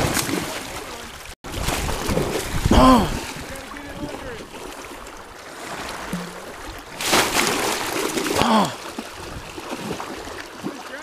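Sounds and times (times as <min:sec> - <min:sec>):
fish splashing in shallow water: 0:00.0 - 0:11.0.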